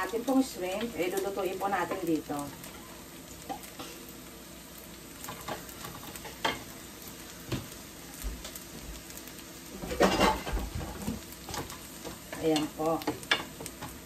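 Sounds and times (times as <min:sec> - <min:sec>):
shrimp sizzling in a pan: 0:00.0 - 0:14.0.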